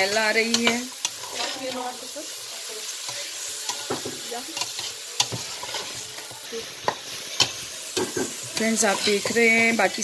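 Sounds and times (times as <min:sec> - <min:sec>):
metal spatula scraping pot: 0:00.0 - 0:02.0, 0:03.0 - 0:10.0
vegetables sizzling in oil: 0:00.0 - 0:10.0.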